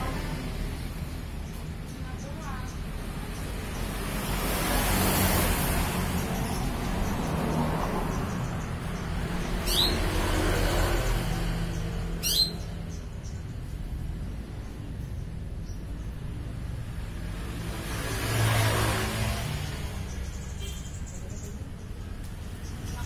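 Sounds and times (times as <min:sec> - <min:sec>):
vehicle passing by: 0:00.0 - 0:23.0
bird chirp: 0:01.0 - 0:23.0.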